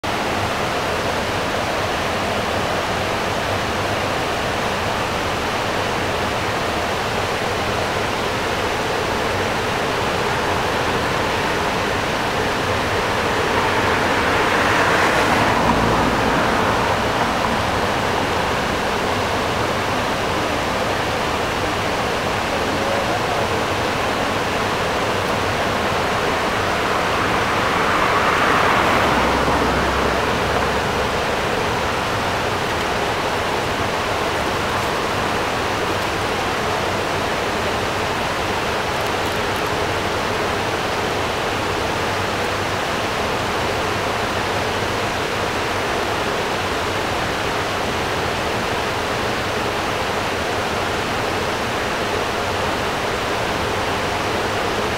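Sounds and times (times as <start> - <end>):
river water rushing over weir: 0.0 - 54.9.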